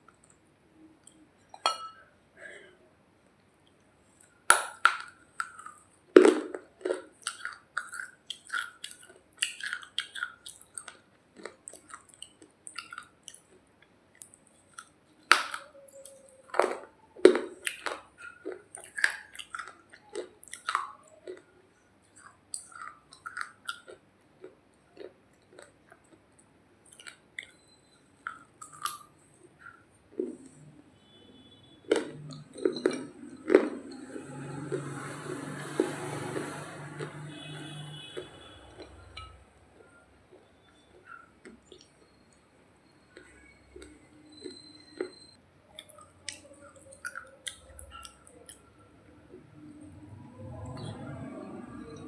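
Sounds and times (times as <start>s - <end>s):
crackly chewing: 3.6s - 52.0s.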